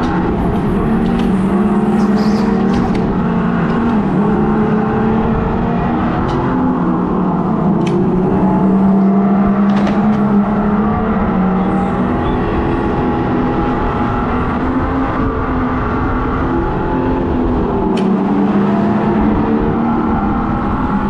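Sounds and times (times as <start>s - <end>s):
go-kart engine through speaker: 0.0s - 21.0s.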